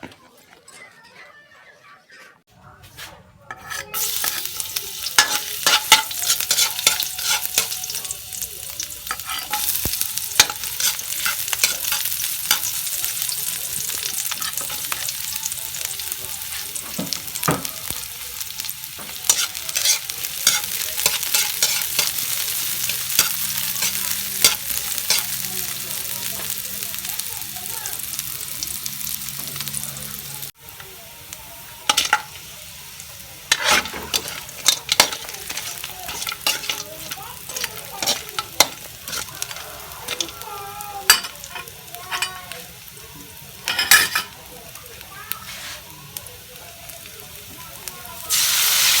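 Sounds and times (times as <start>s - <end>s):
stirring in a pan: 0.0s - 29.8s, 30.4s - 46.0s
meat sizzling in hot oil: 3.8s - 49.0s.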